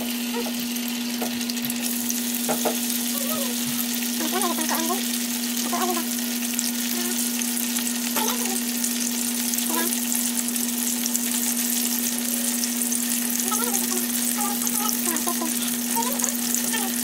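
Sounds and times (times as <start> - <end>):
sausages sizzling in oil: 0.0 - 17.0.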